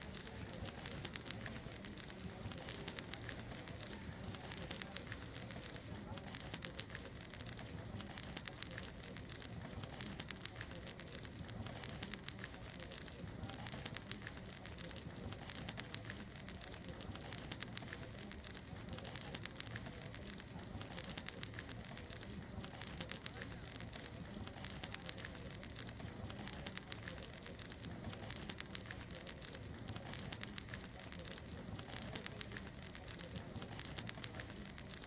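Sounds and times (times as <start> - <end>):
bonfire crackling and popping: 0.0 - 35.0
fire hissing: 0.0 - 35.0.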